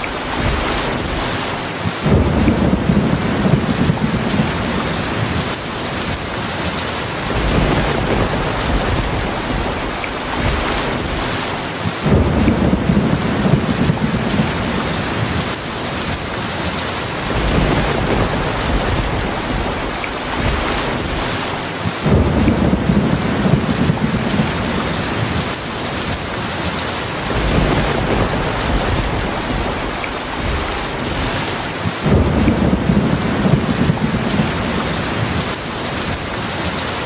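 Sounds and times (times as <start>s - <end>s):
rolling thunder rumbling: 0.0s - 36.9s
heavy rain falling: 0.0s - 37.0s.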